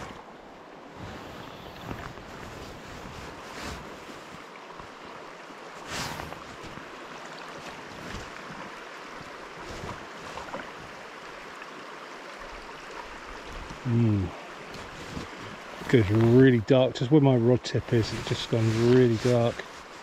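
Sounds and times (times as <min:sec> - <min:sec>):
water swish: 0:00.0 - 0:11.6, 0:12.4 - 0:16.8, 0:17.7 - 0:20.0
river water flowing and lapping: 0:00.0 - 0:20.0.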